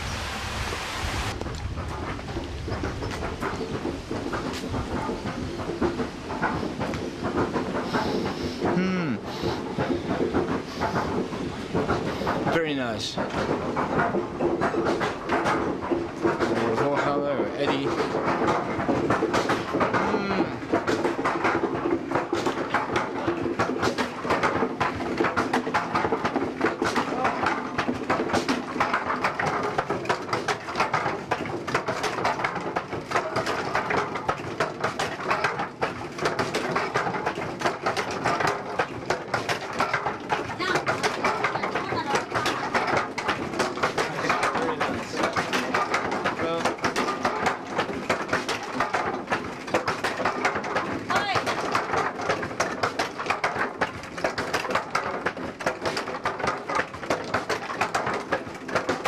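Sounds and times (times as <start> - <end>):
wooden mill knocking: 0.0 - 59.0
wooden pestles pounding in mortars: 1.4 - 59.0.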